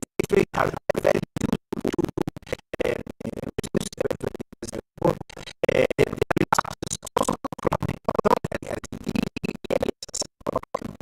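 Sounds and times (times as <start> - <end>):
choppy stuttering voice talking: 0.0 - 11.0.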